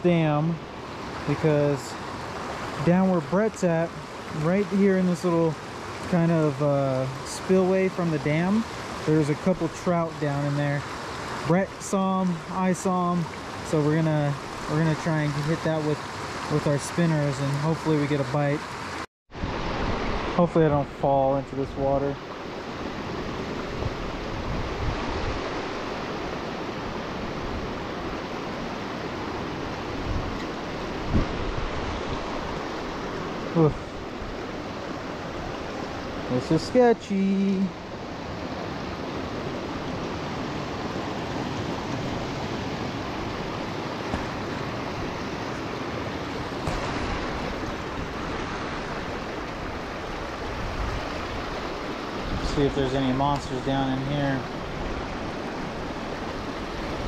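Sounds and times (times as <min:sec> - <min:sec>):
water rushing through spillway: 0:00.0 - 0:57.0.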